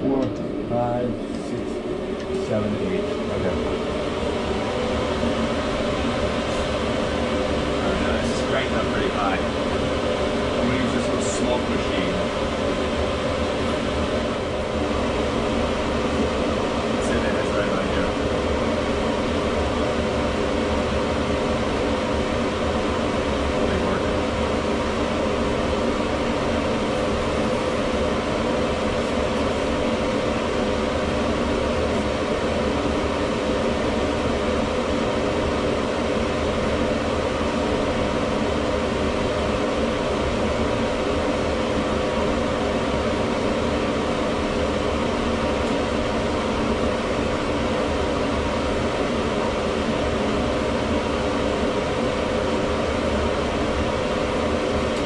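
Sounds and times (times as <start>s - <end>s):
air filter fan running: 0.0s - 55.0s.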